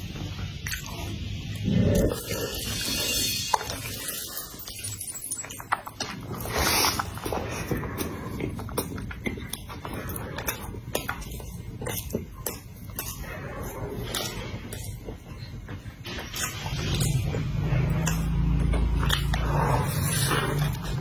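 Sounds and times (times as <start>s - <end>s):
chewing and mouth smacks: 0.0s - 21.0s.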